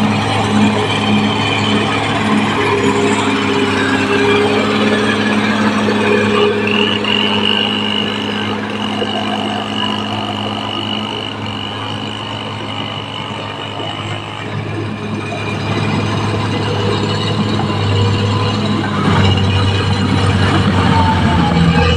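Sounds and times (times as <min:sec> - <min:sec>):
bulldozer diesel engine running: 0:00.0 - 0:21.9
high steady whine: 0:00.0 - 0:21.9.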